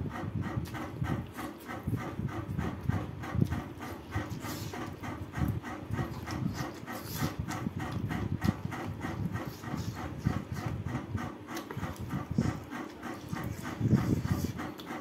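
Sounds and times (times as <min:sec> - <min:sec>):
person chewing and lip-smacking: 0:00.2 - 0:15.0.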